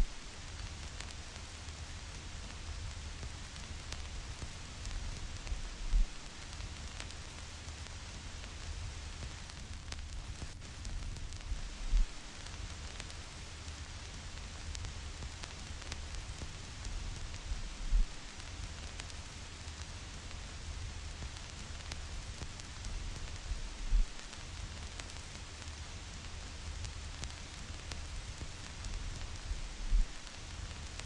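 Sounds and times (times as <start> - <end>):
stylus crackles and pops: 0.0 - 31.0
vinyl record hiss: 0.0 - 31.0.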